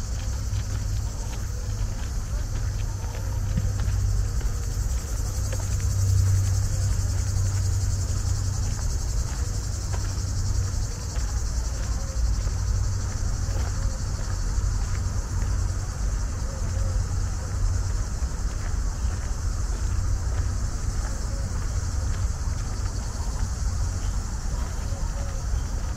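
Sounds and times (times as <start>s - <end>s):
footsteps on dirt path: 0.0s - 25.9s
insects chirring: 0.0s - 25.9s.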